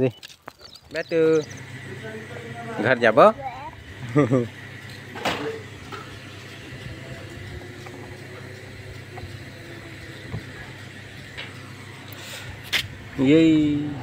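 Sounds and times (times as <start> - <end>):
low hum of traffic: 0.0 - 14.0
vehicle engine running: 0.7 - 14.0.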